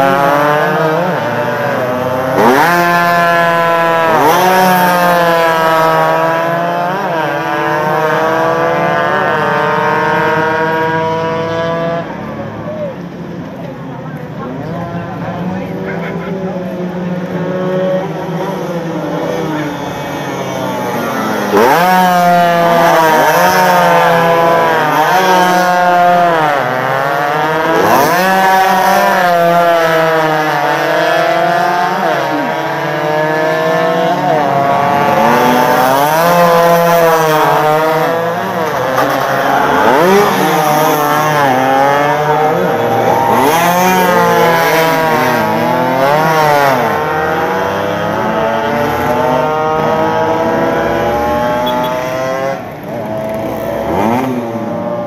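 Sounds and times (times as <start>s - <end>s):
racing motorcycles revving past: 0.0s - 12.5s, 15.4s - 55.0s.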